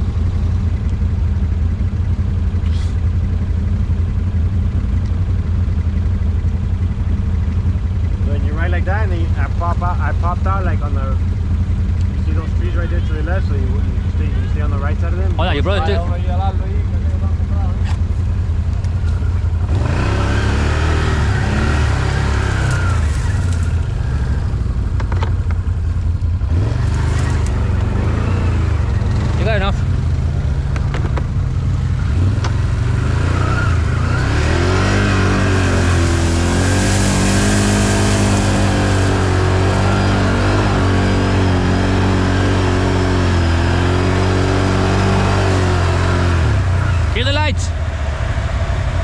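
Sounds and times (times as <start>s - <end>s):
atv engine idling: 0.0s - 20.0s, 22.2s - 41.8s.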